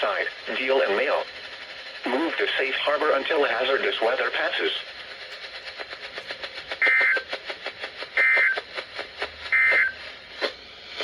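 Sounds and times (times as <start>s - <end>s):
rapid regular ticking: 0.0s - 10.0s.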